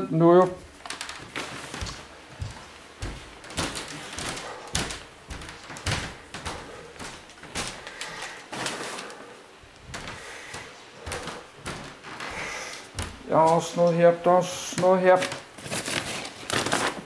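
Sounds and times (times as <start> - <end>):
rustling of belongings: 0.6 - 14.0, 14.6 - 17.0.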